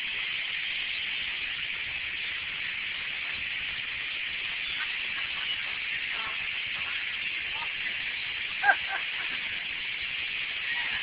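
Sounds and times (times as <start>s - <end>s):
huge flock of birds chattering: 2.1s - 11.0s.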